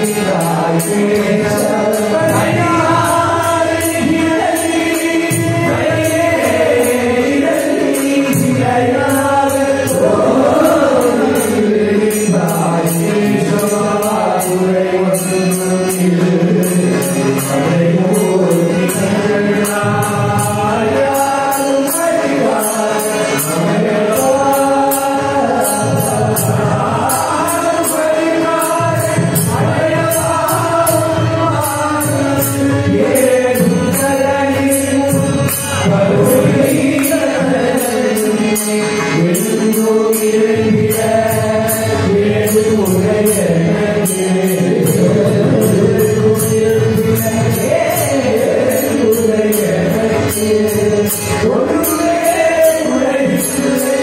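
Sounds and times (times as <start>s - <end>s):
men singing devotional song: 0.0s - 54.0s.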